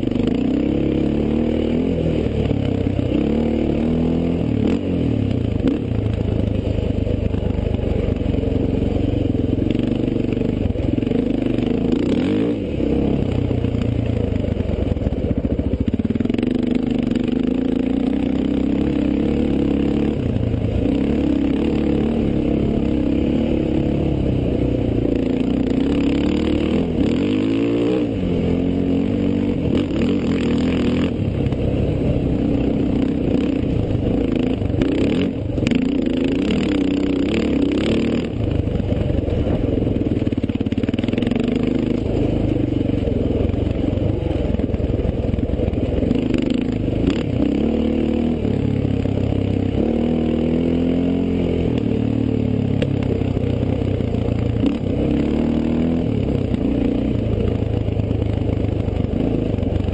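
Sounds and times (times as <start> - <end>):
race vehicle engine running hard: 0.0 - 59.9.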